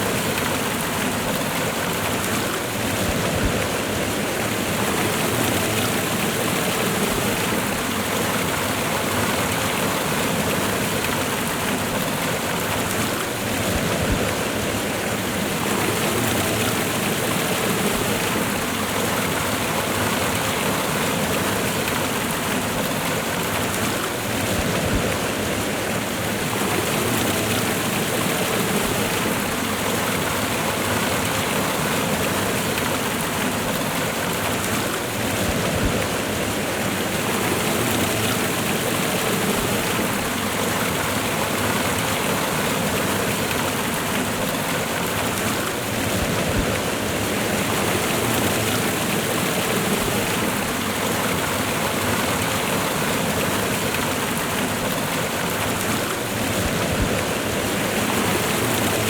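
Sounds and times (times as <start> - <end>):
waterfall and river rushing: 0.0 - 59.0.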